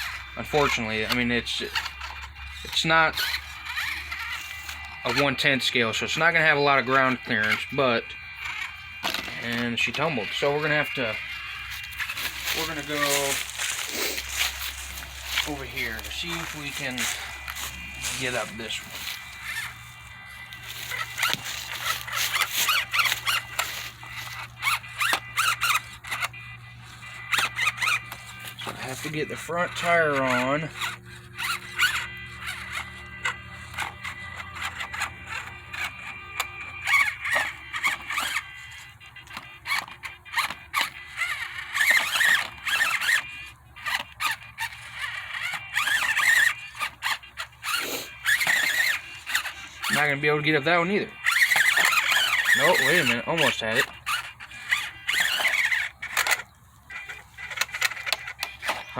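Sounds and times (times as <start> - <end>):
electric motor whine: 0.0 - 58.9
toy truck clicking over rocks: 0.0 - 58.9.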